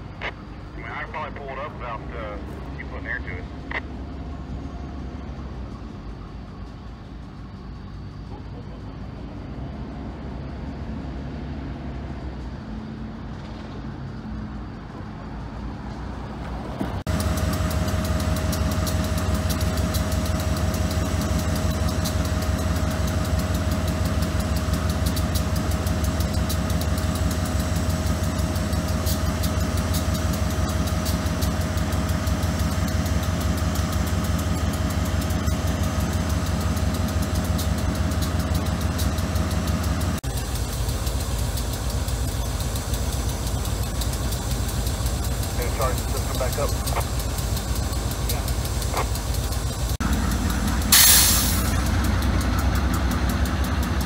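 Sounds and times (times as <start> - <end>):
diesel locomotive engine drone: 0.0 - 54.0
engine whine: 0.0 - 54.0.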